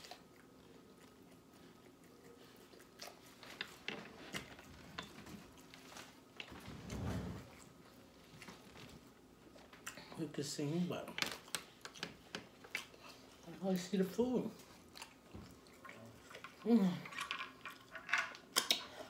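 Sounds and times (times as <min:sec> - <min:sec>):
person chewing with wet smacks: 0:00.0 - 0:06.4, 0:07.6 - 0:10.1, 0:11.2 - 0:13.9, 0:14.5 - 0:19.0.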